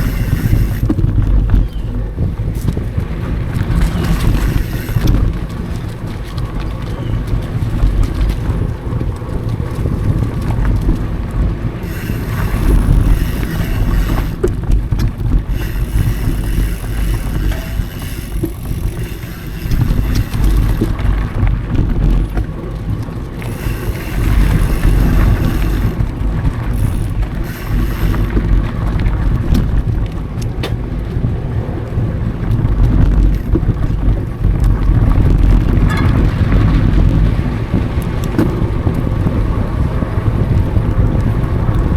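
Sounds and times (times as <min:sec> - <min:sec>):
bike knocks and rattles: 0:00.0 - 0:31.0, 0:32.4 - 0:39.2
tyres rumbling on dirt: 0:00.0 - 0:41.9
wind buffeting microphone: 0:00.0 - 0:41.9.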